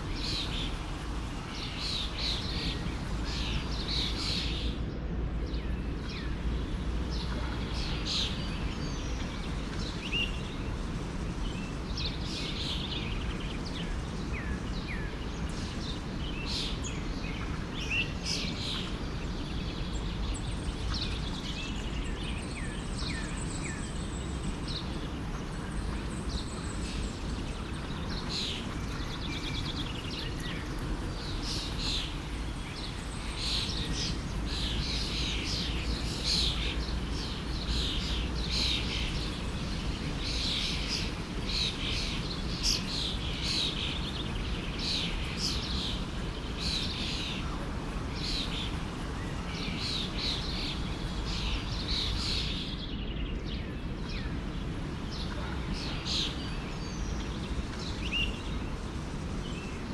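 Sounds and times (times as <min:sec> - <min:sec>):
forest stream flowing: 0:00.0 - 0:04.7, 0:05.8 - 0:59.9
birds chirping: 0:00.0 - 0:04.8, 0:05.4 - 0:59.9.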